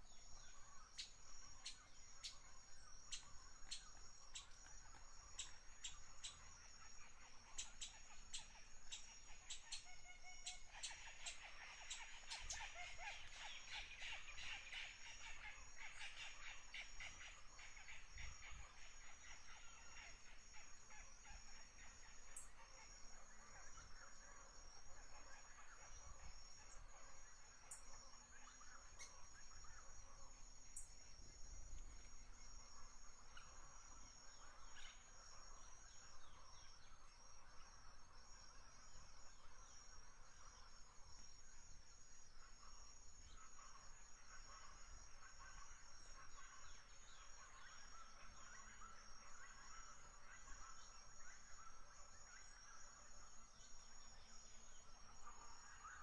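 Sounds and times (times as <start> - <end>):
faint bird chirps: 0.0 - 56.0.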